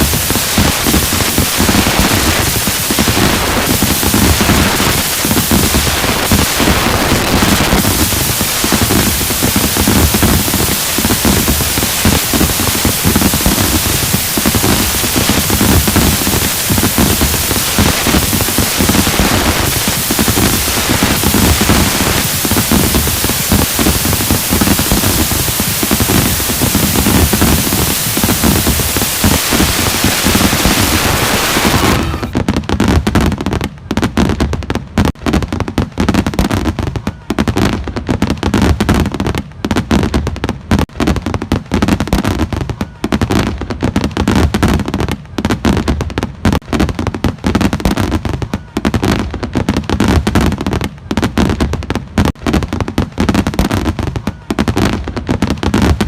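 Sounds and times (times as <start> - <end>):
fireworks hissing crackle: 0.0 - 56.0
fireworks pops and bangs: 0.0 - 56.0.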